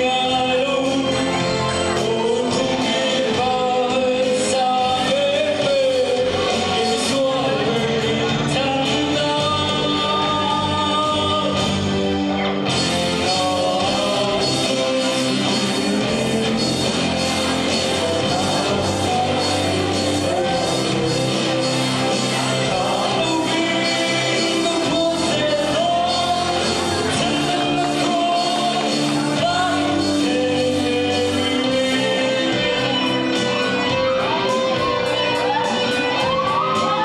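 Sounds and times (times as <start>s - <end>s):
drums: 0.0s - 37.0s
lead singer: 0.0s - 37.0s
live rock band: 0.0s - 37.0s.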